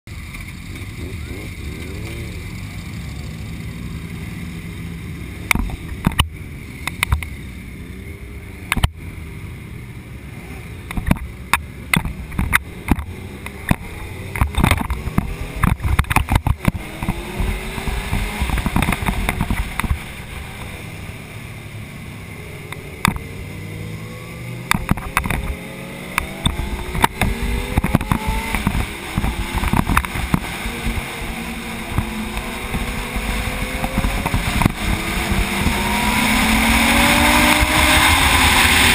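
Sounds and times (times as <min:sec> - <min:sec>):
motorcycle engines idling: 0:00.1 - 0:38.9
motorcycle revving up: 0:00.1 - 0:38.9.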